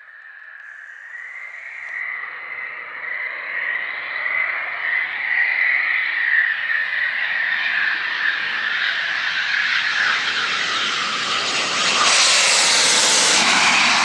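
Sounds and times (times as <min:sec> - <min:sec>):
jet engine whine and roar: 0:00.0 - 0:14.0.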